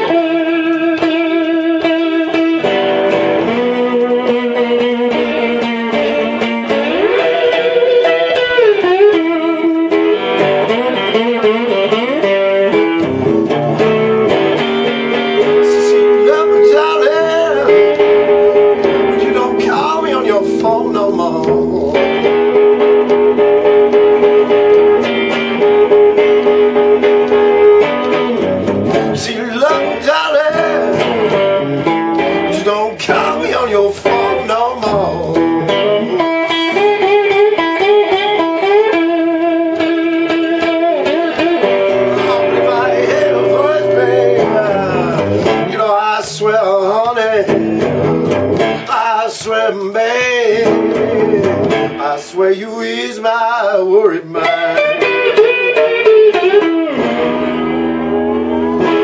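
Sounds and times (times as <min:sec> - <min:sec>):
blues slide electric guitar: 0:00.0 - 0:59.0.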